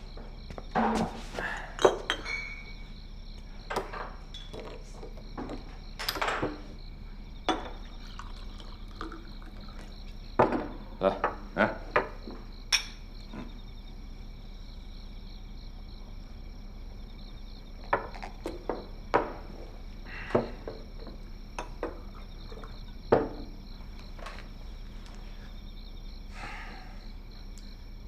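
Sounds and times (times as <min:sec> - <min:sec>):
crickets chirping: 0:00.0 - 0:28.0.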